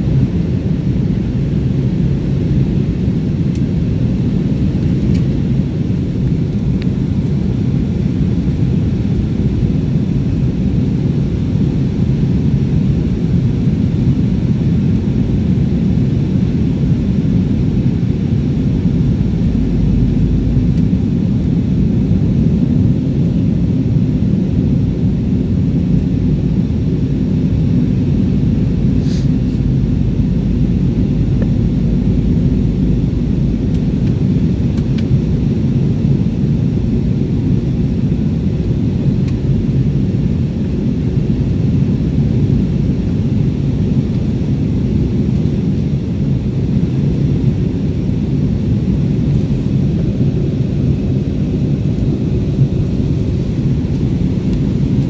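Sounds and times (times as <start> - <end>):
jet cabin engine rumble: 0.0 - 55.0.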